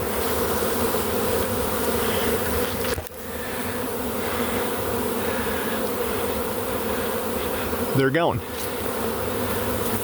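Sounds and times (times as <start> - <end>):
honey bees buzzing: 0.0 - 10.0.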